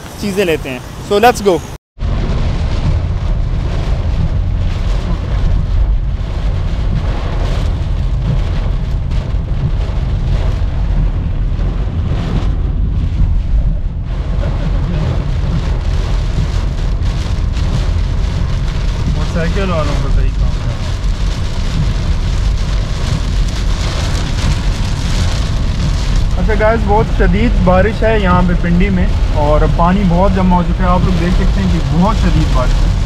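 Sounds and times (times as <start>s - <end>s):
car rumble: 0.0s - 33.0s
heavy rain drumming on car roof: 0.0s - 33.0s.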